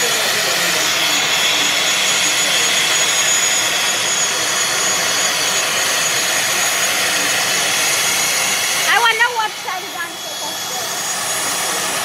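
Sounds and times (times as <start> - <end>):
turboprop engines running: 0.0 - 12.0.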